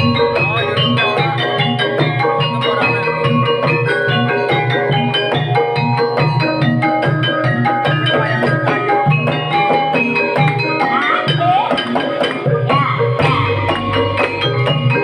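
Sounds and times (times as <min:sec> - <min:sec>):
steady drumming: 0:00.0 - 0:15.0
struck keyed instruments: 0:00.0 - 0:15.0.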